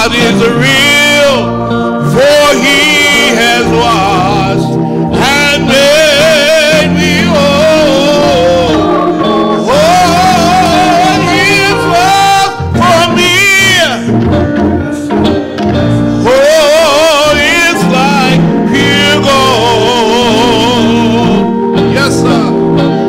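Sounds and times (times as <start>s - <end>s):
electric guitar: 0.0s - 23.0s
keyboard: 0.0s - 23.0s
man singing gospel: 0.0s - 23.0s.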